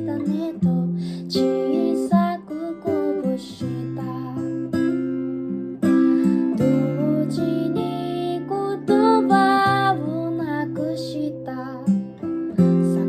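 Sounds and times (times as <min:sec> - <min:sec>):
person singing: 0:00.0 - 0:04.7, 0:05.9 - 0:12.0, 0:12.6 - 0:13.0
acoustic guitar strumming: 0:00.0 - 0:13.0.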